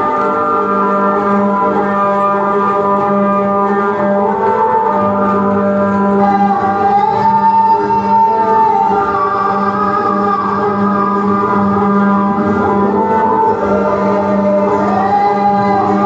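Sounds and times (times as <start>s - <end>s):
layered sustained tones: 0.0s - 16.0s.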